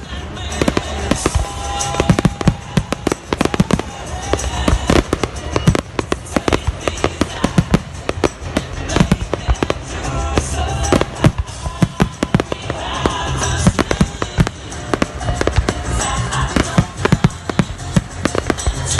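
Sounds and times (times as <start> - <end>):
fireworks bangs and crackles: 0.0 - 18.9
music playing: 0.0 - 18.9.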